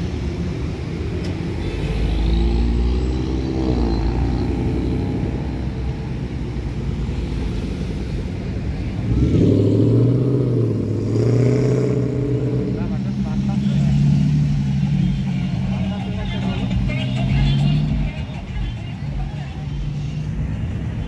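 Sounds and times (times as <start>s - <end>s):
car engines rumbling low: 0.0s - 21.0s
car engine approaching: 2.4s - 21.0s.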